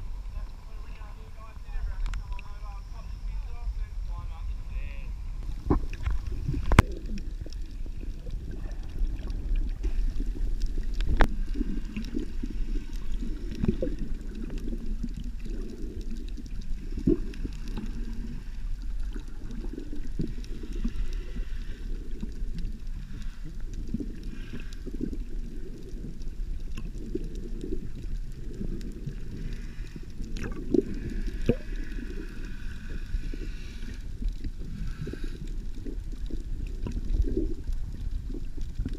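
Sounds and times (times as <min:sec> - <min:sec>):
underwater gurgle of moving water: 0:00.0 - 0:38.9.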